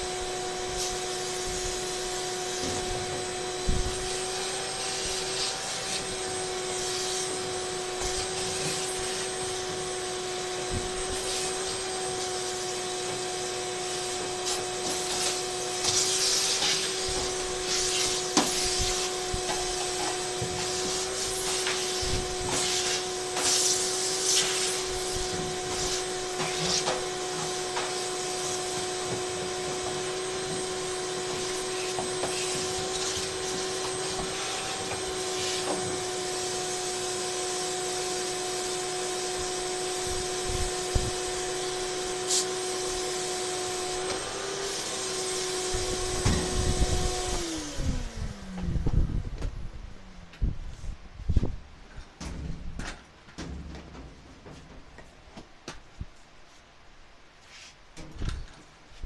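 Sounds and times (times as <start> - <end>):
vacuum nozzle scraping: 0.0 - 49.3
vacuum cleaner whine: 0.0 - 54.7.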